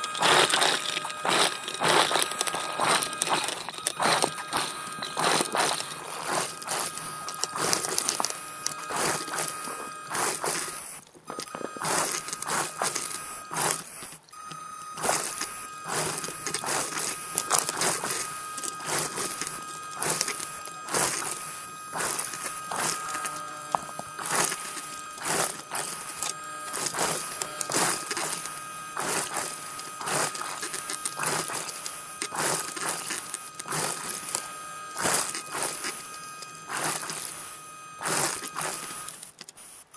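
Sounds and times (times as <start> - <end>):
crackling and clicking: 0.0 - 37.4, 38.0 - 39.6
motor high whine: 0.0 - 39.9.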